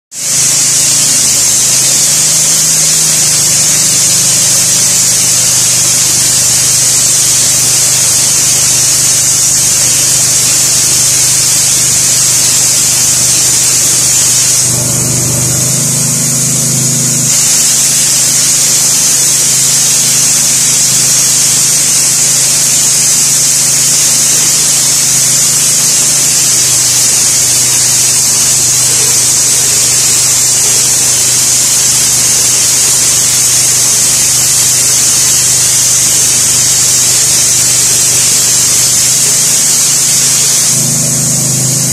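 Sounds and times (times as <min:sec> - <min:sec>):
spray gun air hiss: 0:00.1 - 0:41.9.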